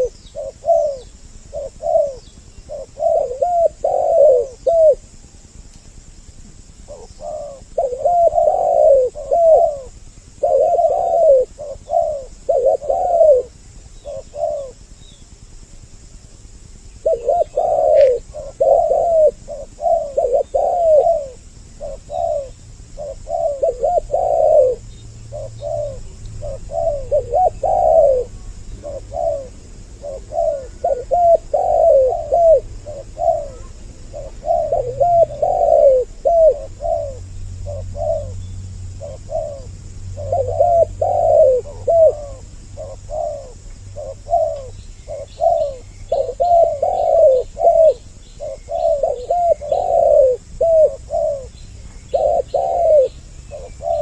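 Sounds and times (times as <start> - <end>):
doves cooing: 0.0 - 5.7, 6.3 - 15.3, 16.2 - 54.0.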